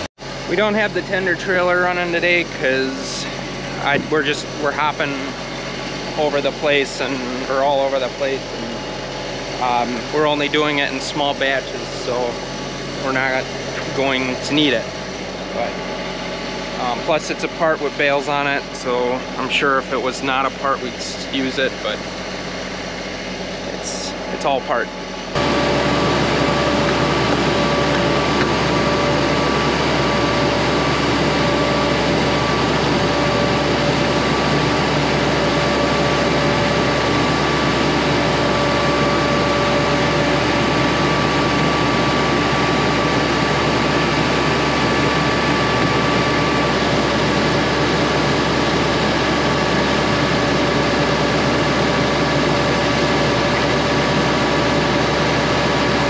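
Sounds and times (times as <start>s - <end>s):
vehicle engine droning: 0.0s - 56.0s
whining tones: 0.0s - 56.0s.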